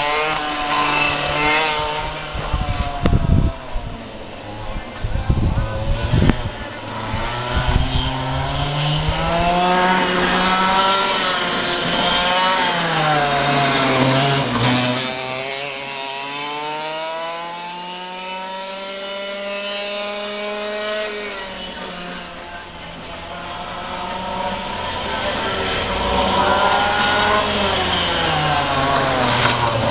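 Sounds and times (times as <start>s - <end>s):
kart engine revving: 0.0s - 29.9s.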